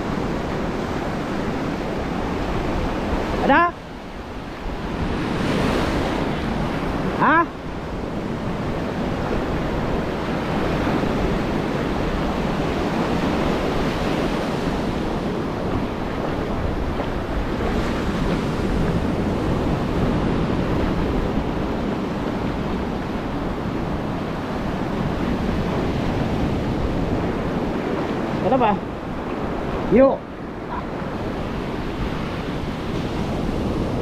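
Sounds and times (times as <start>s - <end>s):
ocean surf breaking: 0.0s - 34.0s
wind buffeting microphone: 0.0s - 34.0s.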